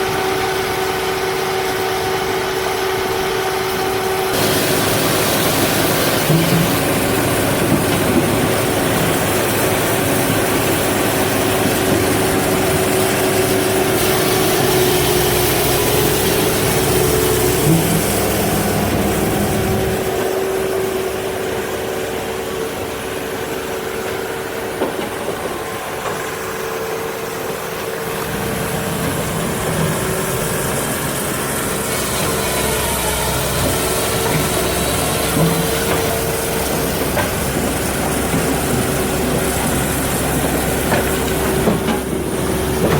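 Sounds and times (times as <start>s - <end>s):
diesel engine drone: 0.0s - 42.9s.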